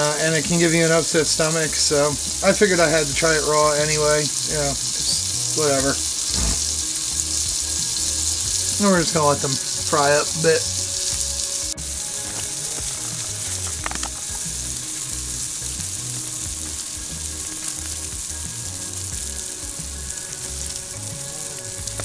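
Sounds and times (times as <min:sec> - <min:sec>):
patties sizzling in frying pan: 0:00.0 - 0:22.0.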